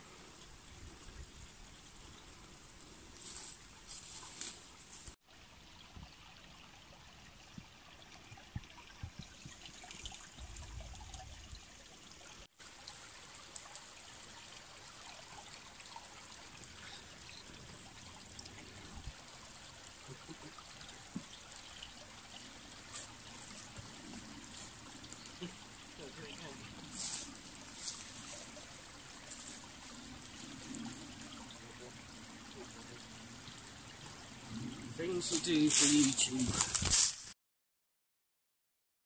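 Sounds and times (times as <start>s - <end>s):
stream trickling over stones: 0.0s - 37.4s.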